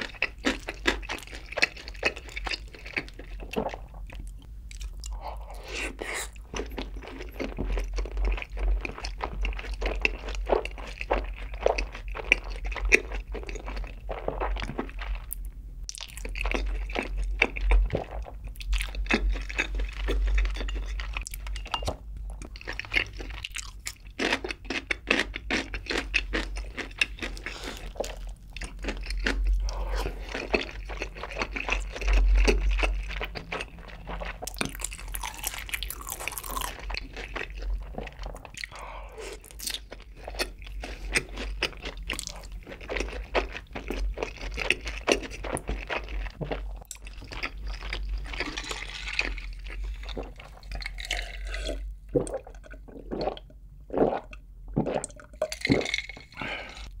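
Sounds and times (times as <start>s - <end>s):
chewing crunchy fried chicken: 0.0s - 21.6s, 22.3s - 57.0s.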